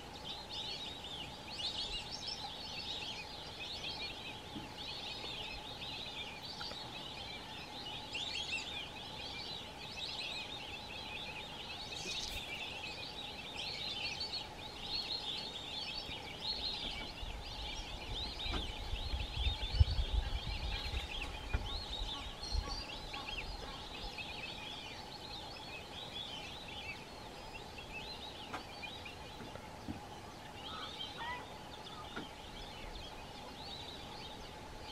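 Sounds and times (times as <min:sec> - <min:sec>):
ducks whistling: 0:01.8 - 0:34.9.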